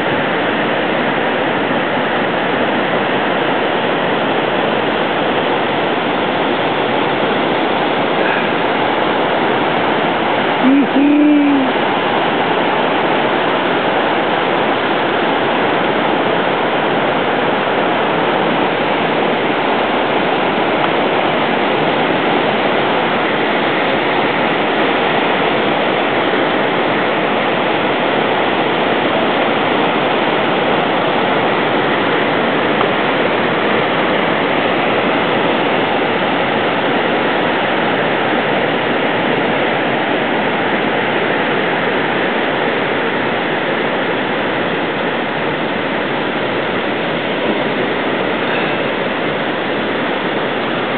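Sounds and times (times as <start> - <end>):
river rushing through rapids: 0.0 - 50.9.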